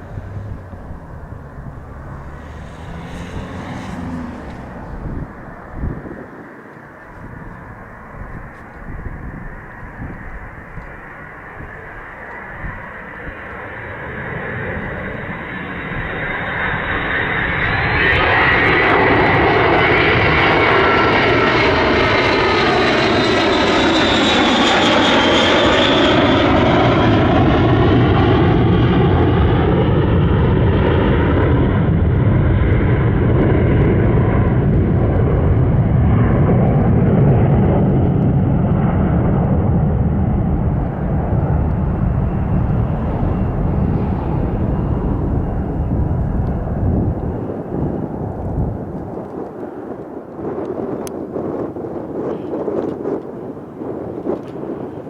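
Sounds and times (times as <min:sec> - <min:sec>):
jet engines passing low: 0:00.0 - 0:55.0.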